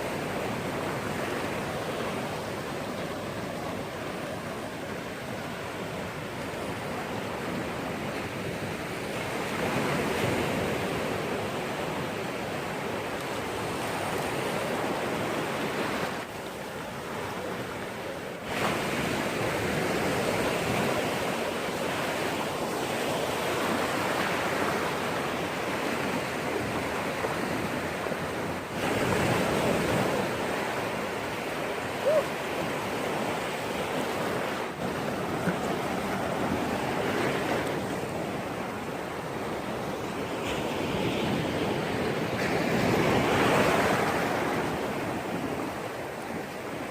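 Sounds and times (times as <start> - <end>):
sea waves breaking on shore: 0.0 - 46.9.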